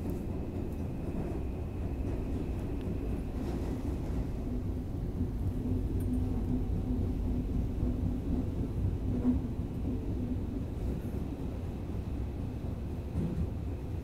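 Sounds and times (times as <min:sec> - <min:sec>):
subway train rumbling in tunnel: 0:00.0 - 0:14.0.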